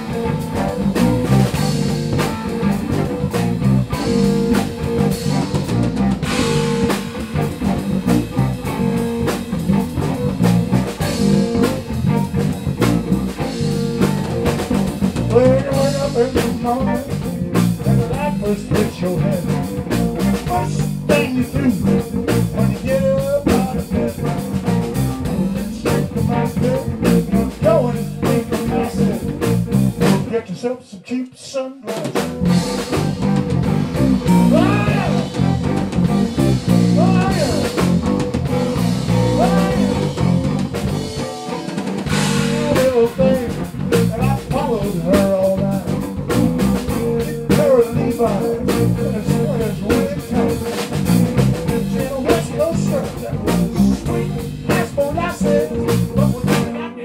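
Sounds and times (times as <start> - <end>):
live blues rock band: 0.0 - 30.7, 31.3 - 57.0.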